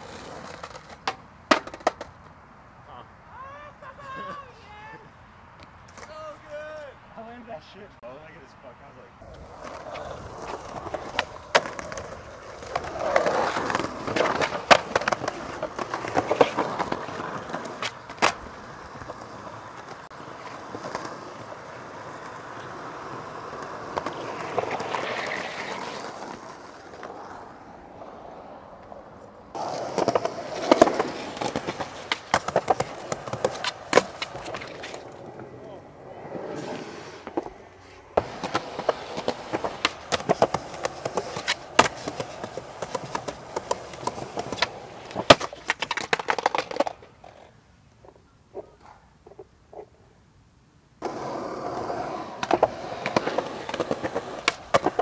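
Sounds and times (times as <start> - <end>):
skateboard clacking: 0.0 - 2.4, 9.2 - 49.9, 51.0 - 55.0
skateboard sliding on concrete ledge: 0.0 - 2.4, 9.2 - 47.6, 51.0 - 55.0
skateboard wheels rolling on pavement: 0.0 - 8.4, 9.2 - 55.0.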